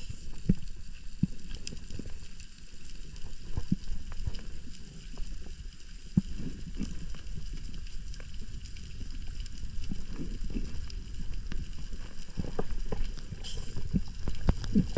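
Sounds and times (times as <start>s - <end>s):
underwater rumble: 0.0s - 14.9s.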